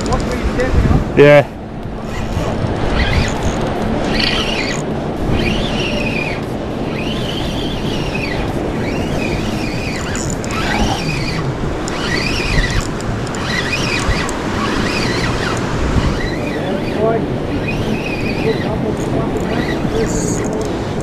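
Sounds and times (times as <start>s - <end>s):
surf rumble: 0.0s - 21.0s
wind on microphone: 0.0s - 21.0s
fishing reel drag squealing: 2.0s - 20.7s.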